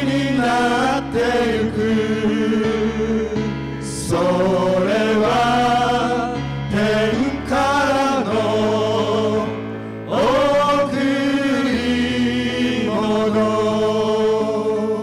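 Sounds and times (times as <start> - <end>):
male vocal group singing gospel: 0.0 - 15.0
musical accompaniment: 0.0 - 15.0.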